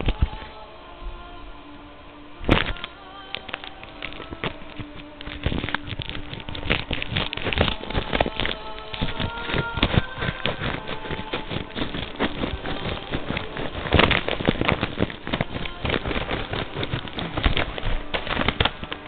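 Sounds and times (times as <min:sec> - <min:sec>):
paper and plastic crinkling: 0:00.0 - 0:00.6, 0:02.5 - 0:19.0
scissors snipping envelope: 0:02.5 - 0:19.0.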